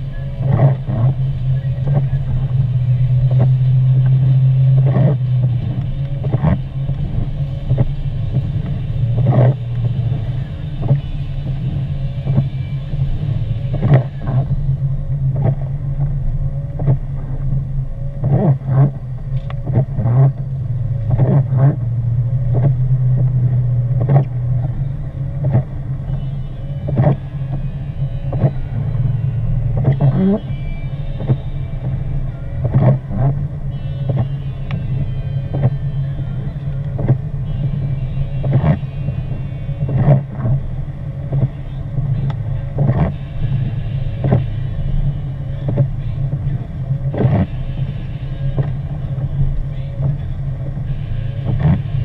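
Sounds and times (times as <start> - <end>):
road and engine hum: 0.0 - 52.0.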